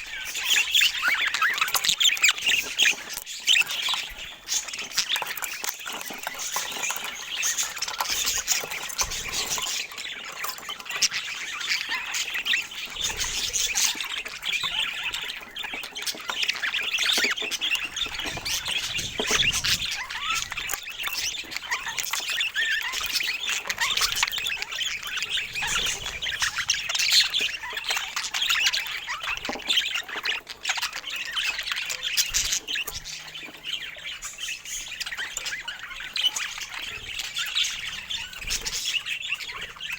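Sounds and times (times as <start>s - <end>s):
parakeets chattering and squawking: 0.0s - 39.9s.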